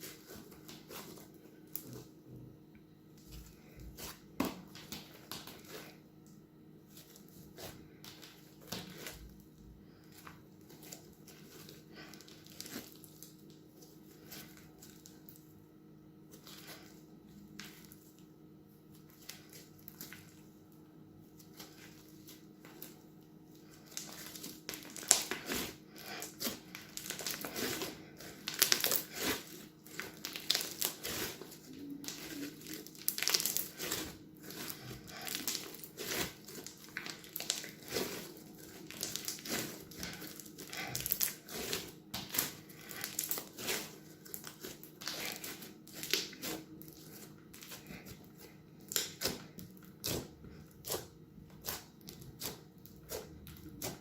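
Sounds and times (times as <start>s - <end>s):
crunchy slime crackling: 0.0s - 2.4s, 3.1s - 54.0s.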